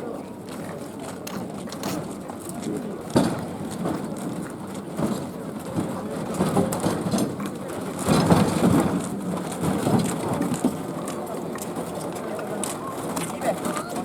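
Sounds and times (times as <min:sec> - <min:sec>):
crowd voices: 0:00.0 - 0:14.0
wooden wheels rumbling on road: 0:00.0 - 0:14.0.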